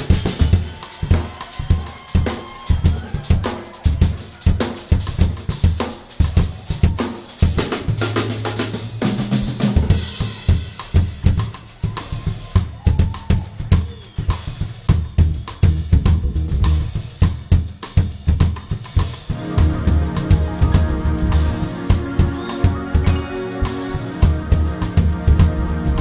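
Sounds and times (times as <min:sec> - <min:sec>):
drum kit solo: 0:00.0 - 0:26.0.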